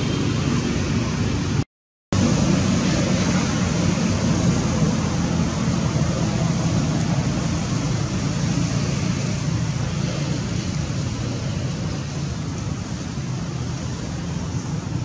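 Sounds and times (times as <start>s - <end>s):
loud rushing noise with rumble: 0.0s - 15.0s.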